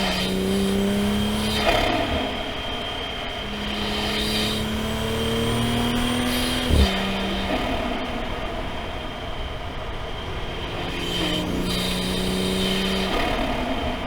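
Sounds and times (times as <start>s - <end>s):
car engine revving: 0.0s - 8.5s, 10.4s - 14.0s.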